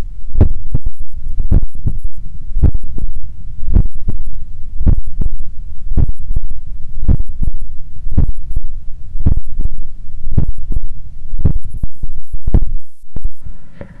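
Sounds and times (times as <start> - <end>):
heartbeat through stethoscope: 0.0 - 13.4.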